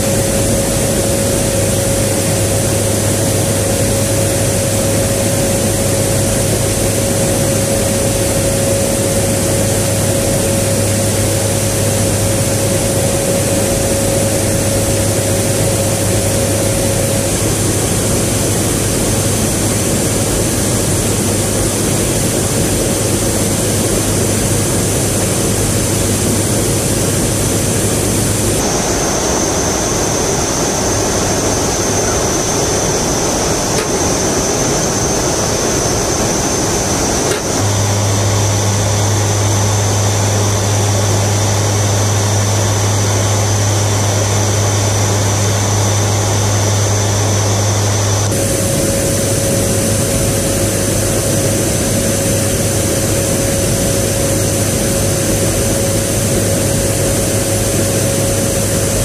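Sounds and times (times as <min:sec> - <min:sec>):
propeller aircraft engines droning: 0:00.0 - 0:59.0.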